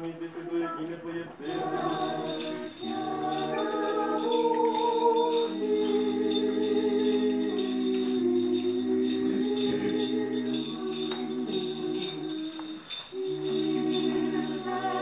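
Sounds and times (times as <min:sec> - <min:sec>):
choir chanting in harmony: 0:01.2 - 0:15.0.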